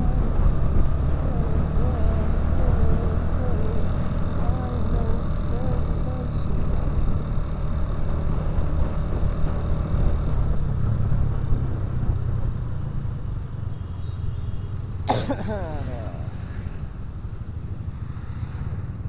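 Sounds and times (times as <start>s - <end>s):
motorcycle engine rumble: 0.0s - 19.0s
road noise: 0.0s - 19.0s.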